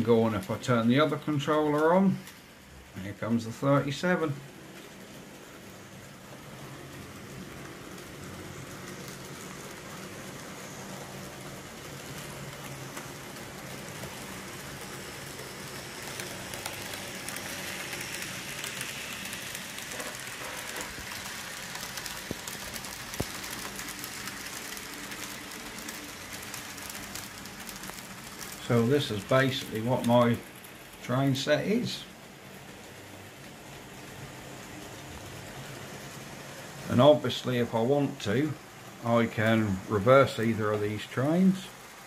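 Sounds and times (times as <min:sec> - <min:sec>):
model train wheels rattling: 0:03.0 - 0:42.0.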